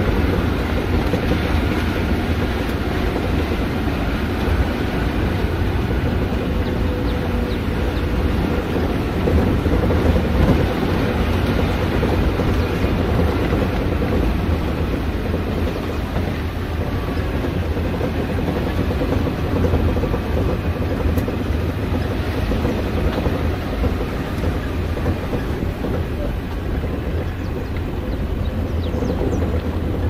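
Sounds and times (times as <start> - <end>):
vehicle engine and tyres on gravel: 0.0 - 30.0
wind on microphone: 0.0 - 30.0.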